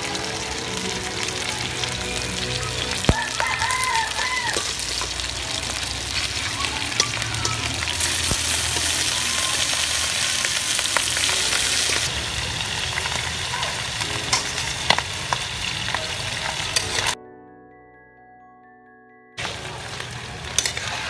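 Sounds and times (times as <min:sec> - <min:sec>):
meat sizzling in hot oil: 0:00.0 - 0:17.2, 0:19.4 - 0:21.0.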